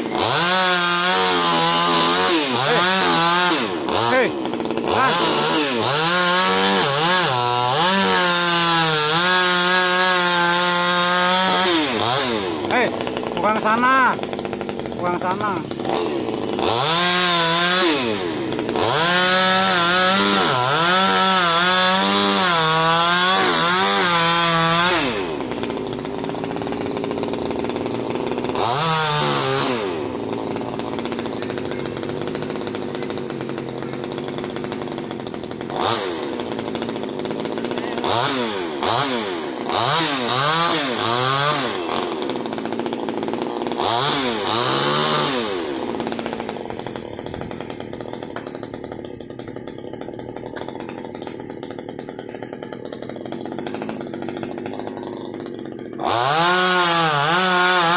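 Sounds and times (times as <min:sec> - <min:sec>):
chainsaw revving: 0:00.0 - 0:57.9.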